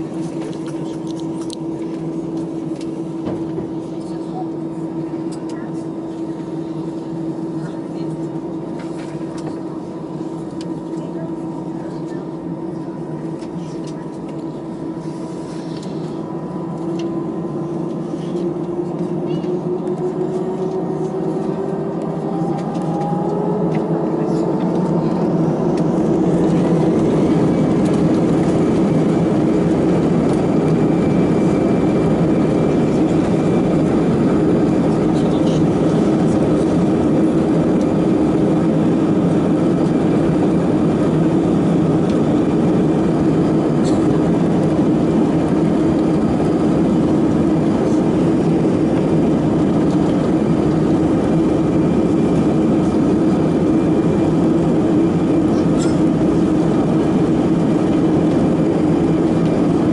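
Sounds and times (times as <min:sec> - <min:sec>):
jet engines roaring in cabin: 0:00.0 - 0:59.9.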